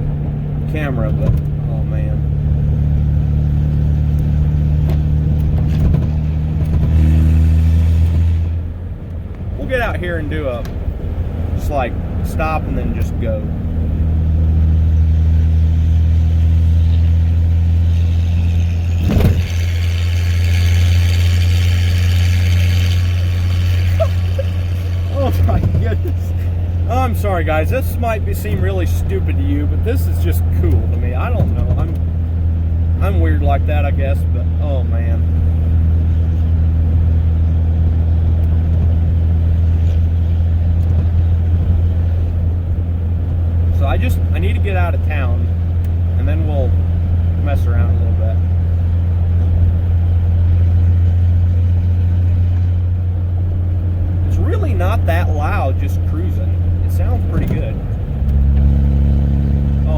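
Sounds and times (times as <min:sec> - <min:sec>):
deep engine exhaust drone: 0:00.0 - 0:59.9.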